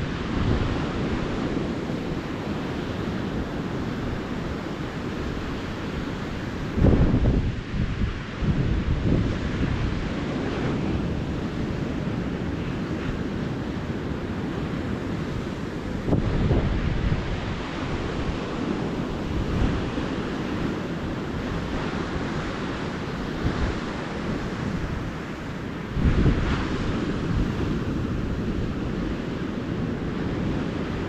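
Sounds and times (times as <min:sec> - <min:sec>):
ocean surf breaking: 0:00.0 - 0:31.0
wind rumbling on microphone: 0:00.0 - 0:31.0.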